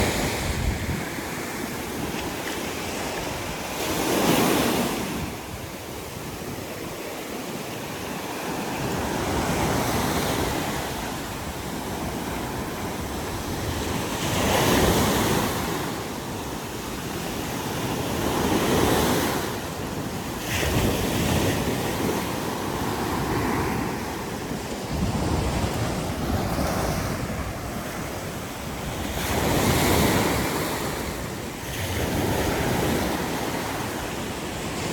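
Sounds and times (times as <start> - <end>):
wind buffeting the microphone: 0.0 - 7.1, 8.7 - 34.9
sea waves breaking on a beach: 0.0 - 34.9.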